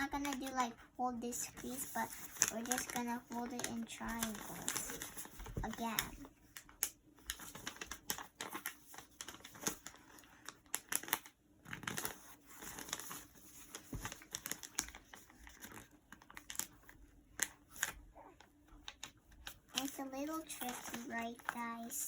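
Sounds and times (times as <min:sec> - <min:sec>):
paper crinkling and crackling: 0:00.0 - 0:22.0.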